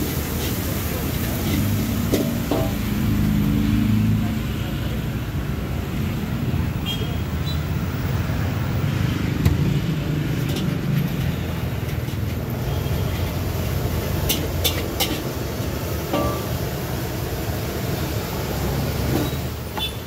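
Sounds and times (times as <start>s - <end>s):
low rumble of street noise: 0.0s - 20.0s.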